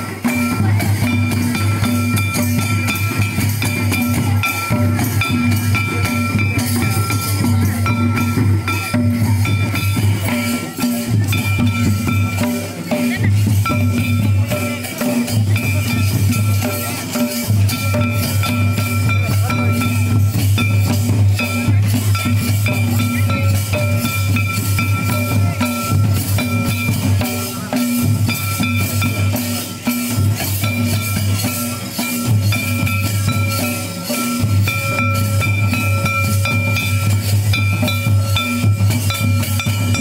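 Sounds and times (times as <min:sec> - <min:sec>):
drums beating: 0:00.0 - 0:40.0.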